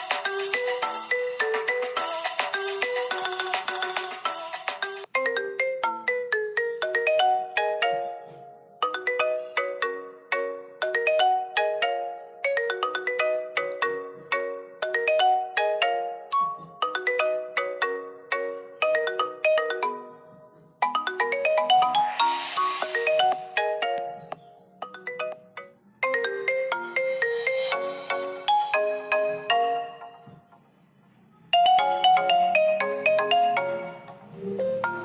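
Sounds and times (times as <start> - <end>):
marimba ringtone melody: 0.0 - 30.6, 31.5 - 35.0.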